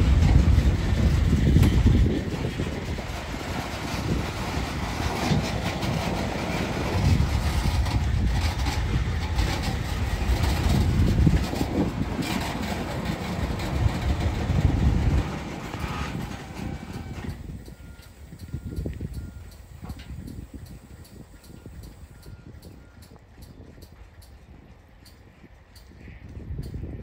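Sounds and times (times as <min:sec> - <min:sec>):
diesel locomotive engine running: 0:00.0 - 0:27.0.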